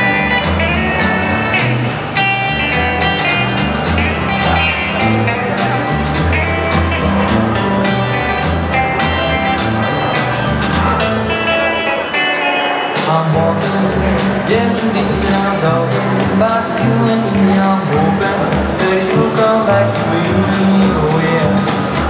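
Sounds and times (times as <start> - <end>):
country music with guitar: 0.0 - 22.0.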